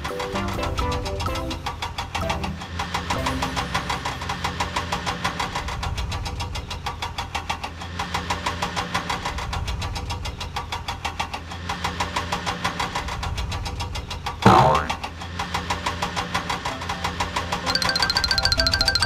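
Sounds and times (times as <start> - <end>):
engine knocking: 0.0 - 14.4, 15.0 - 19.0.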